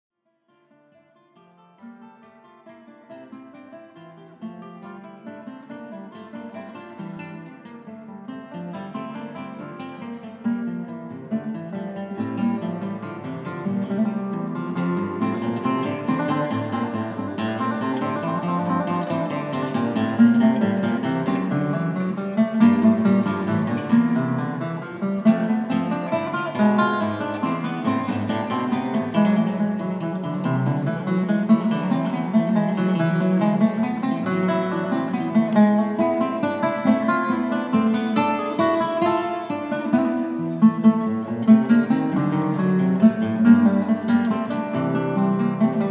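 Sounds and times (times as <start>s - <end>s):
acoustic guitar playing: 0.5s - 45.9s.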